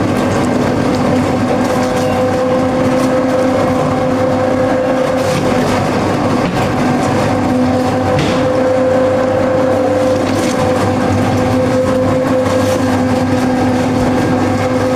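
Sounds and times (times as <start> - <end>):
machine humming and whining: 0.0 - 14.9.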